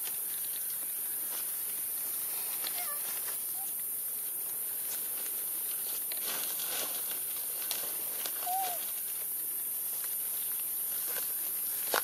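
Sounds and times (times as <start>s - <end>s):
rustling in grass: 0.0s - 12.0s
steady high hiss: 0.0s - 12.0s.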